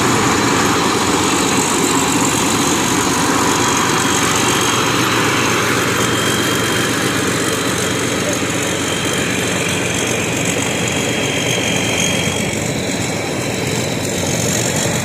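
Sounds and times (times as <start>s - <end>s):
diesel engine running loud: 0.0s - 15.0s.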